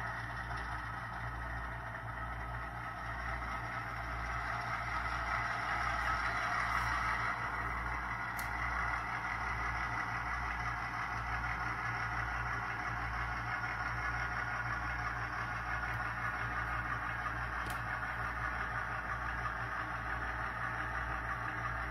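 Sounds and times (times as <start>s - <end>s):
model diesel engine sound: 0.0s - 21.9s.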